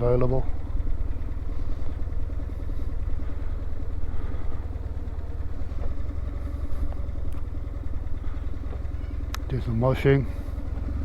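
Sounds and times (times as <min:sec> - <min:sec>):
motorcycle engine idling low: 0:00.0 - 0:11.0.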